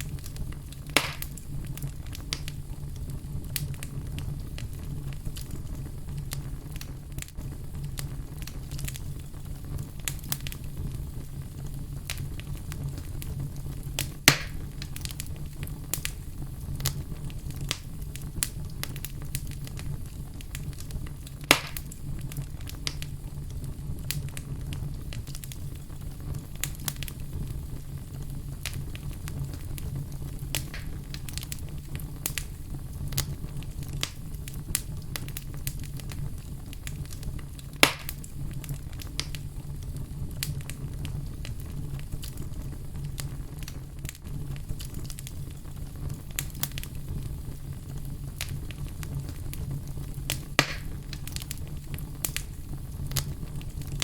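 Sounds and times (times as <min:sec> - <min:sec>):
fire crackling and snapping: 0:00.0 - 0:54.0
loud fire pops: 0:00.0 - 0:54.0
low fire rumble: 0:00.0 - 0:54.0.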